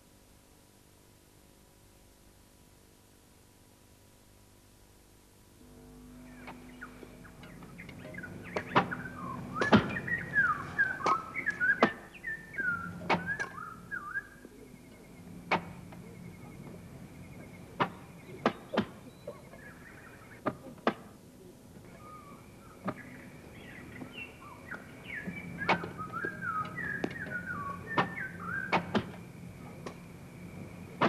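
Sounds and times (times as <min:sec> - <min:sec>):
birds calling: 0:06.0 - 0:31.0.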